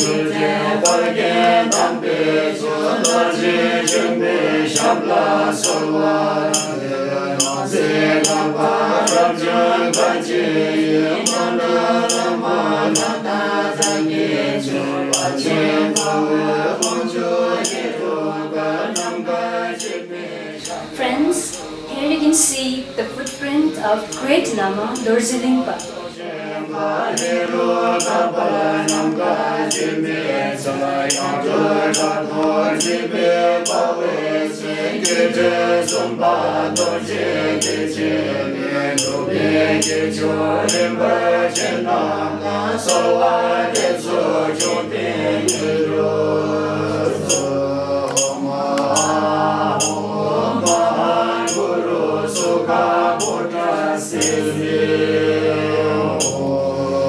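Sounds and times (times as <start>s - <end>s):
chanted song over percussive beat: 0.0s - 57.0s.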